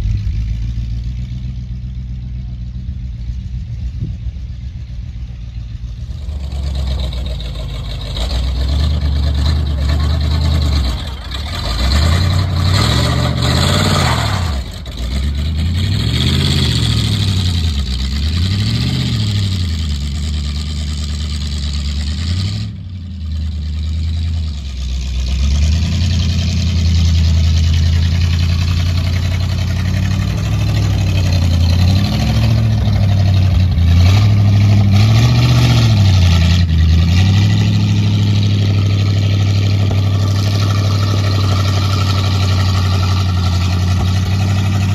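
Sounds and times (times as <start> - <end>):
truck engine idling and revving: 0.0 - 44.9.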